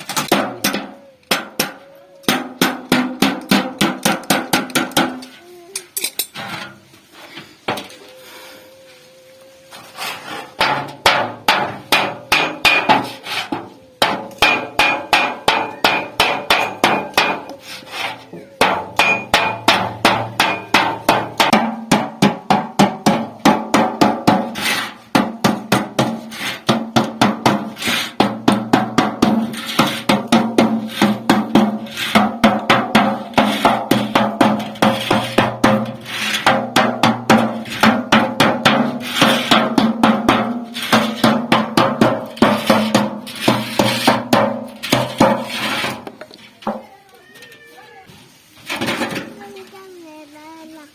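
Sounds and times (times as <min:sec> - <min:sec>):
hammer beating sheet steel: 0:00.0 - 0:05.3, 0:10.3 - 0:46.8.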